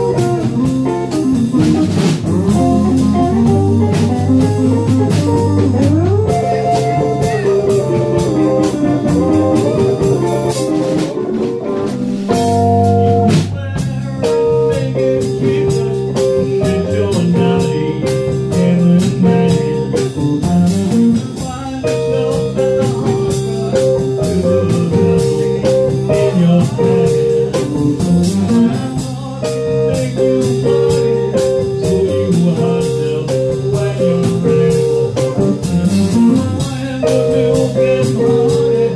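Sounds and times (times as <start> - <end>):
electric guitar lines: 0.0 - 13.6, 14.2 - 38.9
bass guitar: 0.0 - 38.9
drum kit: 0.0 - 38.9.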